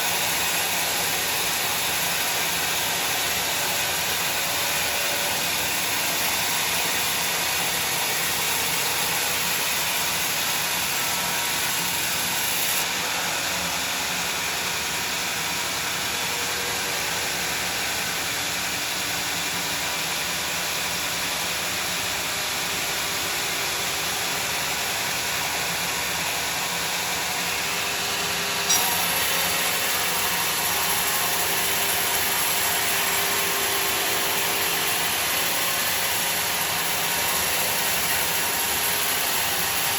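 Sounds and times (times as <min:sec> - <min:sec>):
sawmill saw cutting a log: 0:00.0 - 0:39.9.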